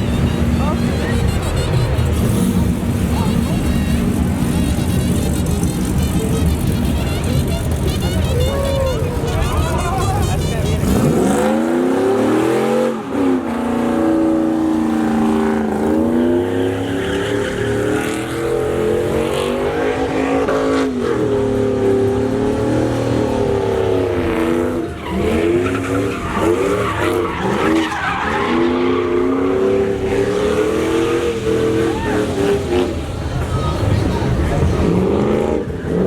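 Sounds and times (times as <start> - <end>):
tyres spinning and squealing: 0.0 - 35.0
truck engine at high revs: 0.0 - 36.0.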